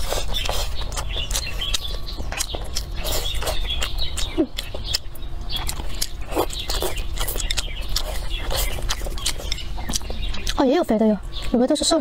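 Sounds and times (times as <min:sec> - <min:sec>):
close-up chewing: 0:00.0 - 0:11.6
birds chirping: 0:00.0 - 0:12.0
wet mouth clicks: 0:00.3 - 0:10.6.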